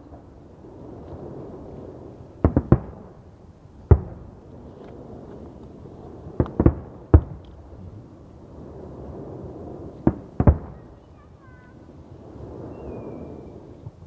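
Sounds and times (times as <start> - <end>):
distant fireworks: 0.0 - 14.0
sharp firework bangs: 0.0 - 14.0.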